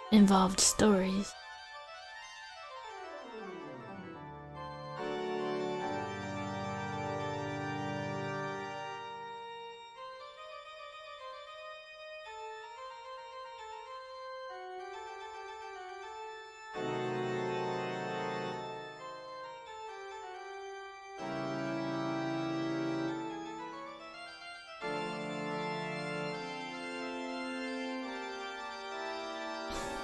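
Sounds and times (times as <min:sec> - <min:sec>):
organ music: 0:03.1 - 0:12.5, 0:14.5 - 0:30.0.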